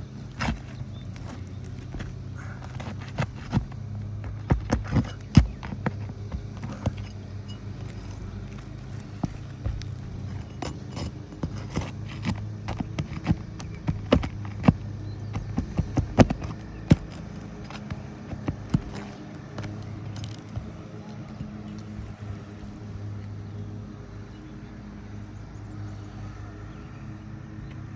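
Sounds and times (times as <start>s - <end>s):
hand tools knocking on shingles: 0.0s - 23.0s
steady low hum: 0.0s - 24.0s.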